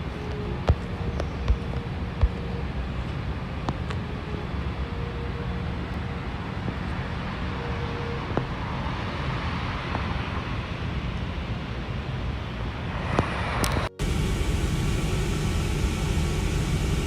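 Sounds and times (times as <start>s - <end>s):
vehicle road noise: 0.0s - 17.0s.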